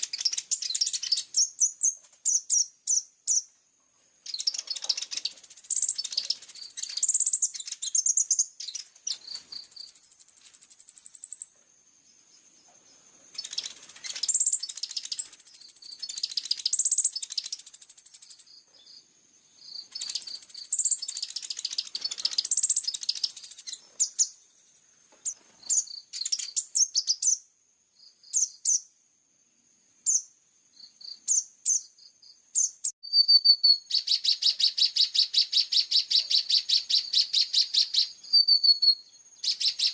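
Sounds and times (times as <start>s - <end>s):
sunbird chattering song: 0.0s - 3.6s, 4.2s - 29.0s, 30.0s - 39.9s.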